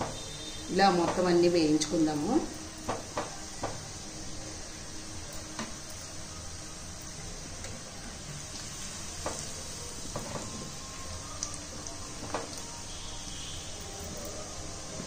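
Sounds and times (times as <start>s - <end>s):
oil sizzling while deep-frying: 0.0s - 15.0s.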